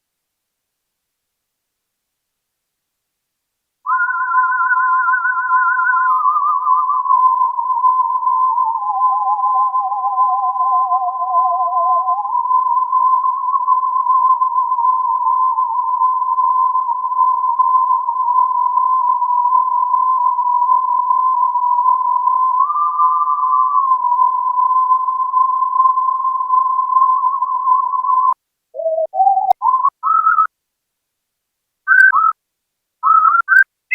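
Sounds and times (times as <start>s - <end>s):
synthesizer whistling tones: 3.9s - 30.5s, 31.9s - 32.4s, 33.0s - 33.7s.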